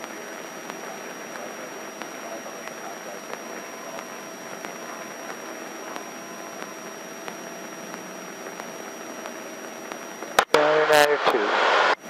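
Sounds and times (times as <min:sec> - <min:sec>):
faint regular ticks: 0:00.0 - 0:10.4
airplane cabin hiss: 0:00.0 - 0:12.0
muffled airplane engine: 0:00.0 - 0:12.0.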